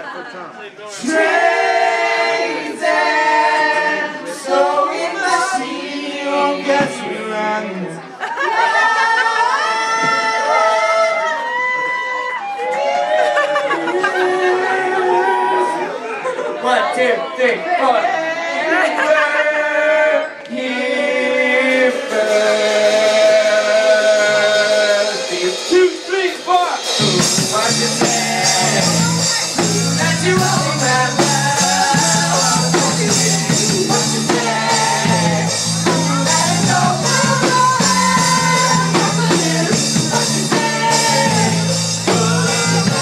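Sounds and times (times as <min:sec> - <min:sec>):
group of people singing: 0:00.9 - 0:16.4, 0:17.5 - 0:26.0, 0:26.8 - 0:43.0.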